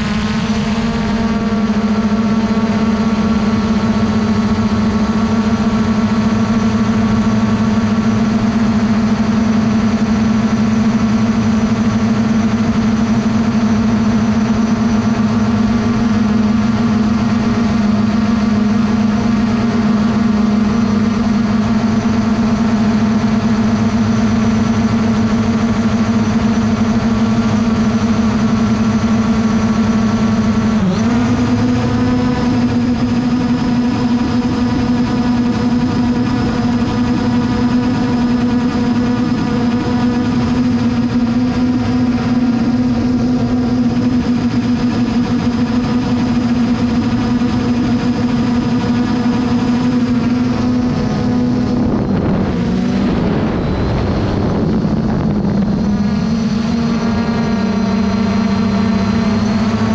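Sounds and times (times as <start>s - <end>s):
drone motors humming: 0.0s - 59.9s.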